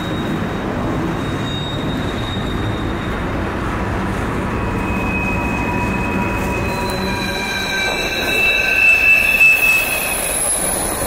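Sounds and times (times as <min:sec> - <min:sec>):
high wheel squeal: 0:00.0 - 0:11.0
train wheels rumbling on rails: 0:00.0 - 0:11.0.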